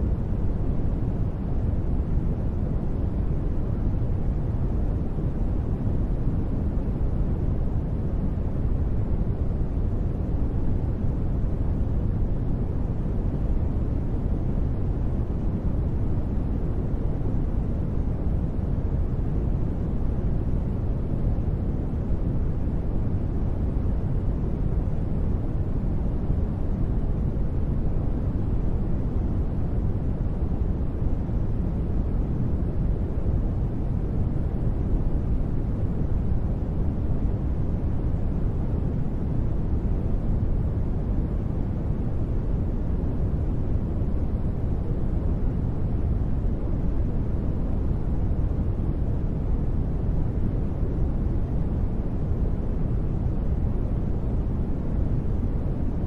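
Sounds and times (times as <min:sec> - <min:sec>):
deep muffled white noise: 0:00.0 - 0:56.0.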